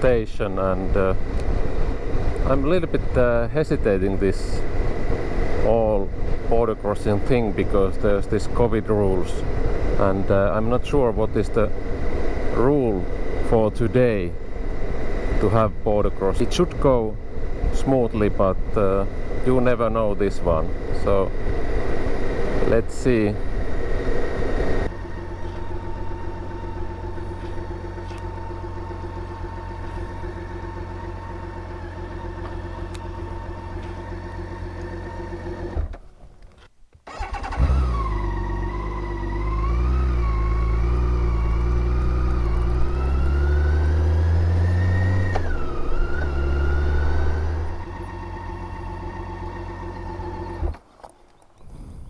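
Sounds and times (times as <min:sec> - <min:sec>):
motorcycle engine accelerating: 0:00.0 - 0:36.0, 0:37.1 - 0:50.8.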